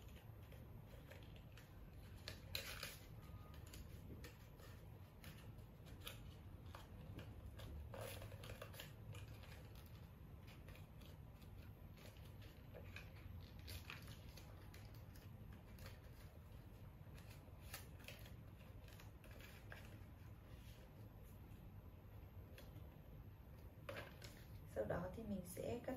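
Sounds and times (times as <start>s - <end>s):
paper crinkling and rustling: 0.0s - 21.4s
low steady hum: 0.0s - 25.9s.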